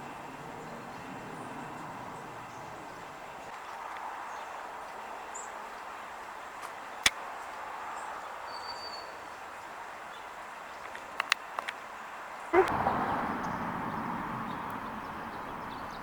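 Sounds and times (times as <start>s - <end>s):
outdoor background hum: 0.0s - 16.0s.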